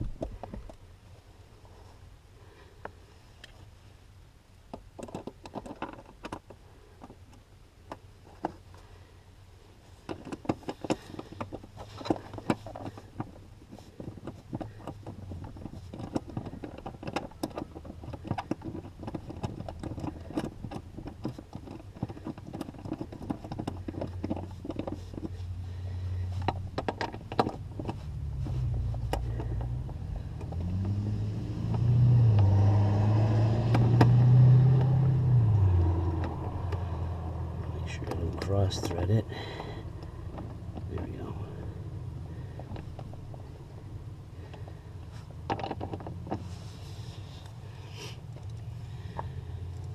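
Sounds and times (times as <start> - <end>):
vehicle engine humming: 6.0 - 49.9.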